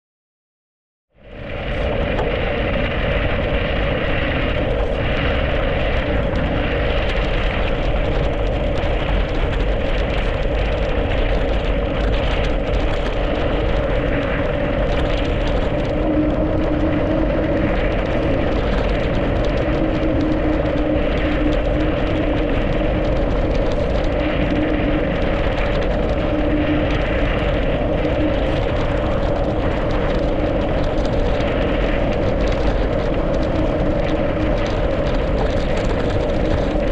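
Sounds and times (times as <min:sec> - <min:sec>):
constant hum: 0:01.2 - 0:36.9
wind rushing: 0:01.2 - 0:36.9
bike tyre noise: 0:01.3 - 0:36.9.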